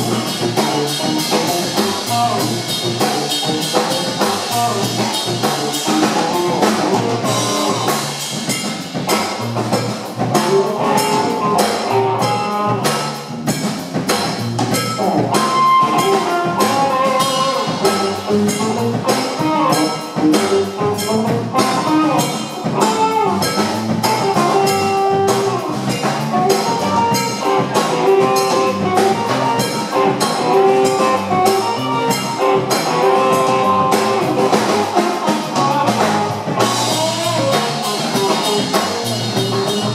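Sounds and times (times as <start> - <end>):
electric guitar holding long notes: 0.0 - 9.1, 9.8 - 13.5, 14.8 - 39.9
drum kit beat: 0.0 - 39.9
electric bass: 0.0 - 39.9.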